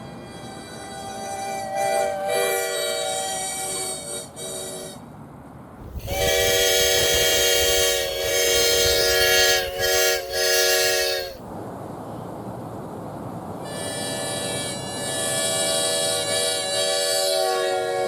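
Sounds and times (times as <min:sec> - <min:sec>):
train horn chord: 0:00.0 - 0:05.0, 0:05.8 - 0:11.4, 0:13.6 - 0:18.0.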